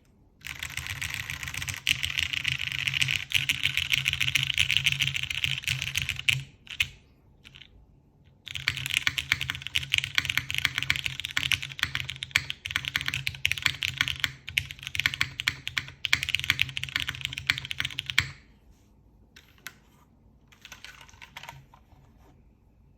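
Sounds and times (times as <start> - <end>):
mechanical keyboard typing: 0.4 - 7.7, 8.5 - 18.4, 20.5 - 21.8.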